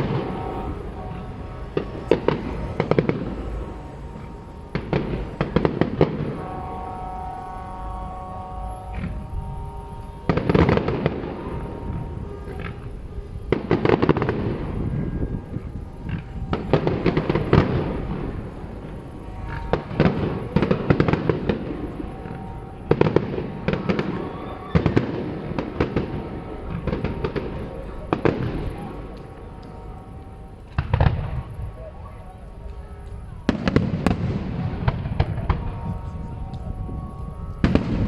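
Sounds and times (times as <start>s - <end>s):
fireworks bursts and crackling: 0.0s - 7.4s, 10.0s - 31.9s, 32.6s - 38.0s
faint music: 0.0s - 38.0s.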